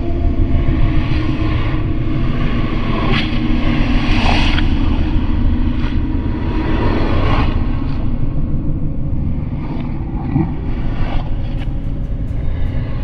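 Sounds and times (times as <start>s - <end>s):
deep ambient drone: 0.0s - 13.0s.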